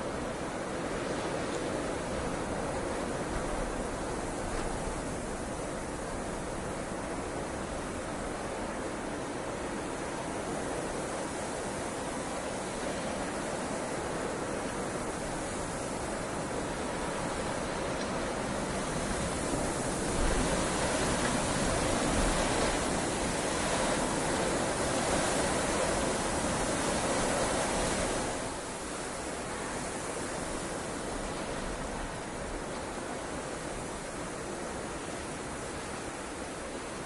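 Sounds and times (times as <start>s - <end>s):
rain falling steadily: 0.0s - 37.0s.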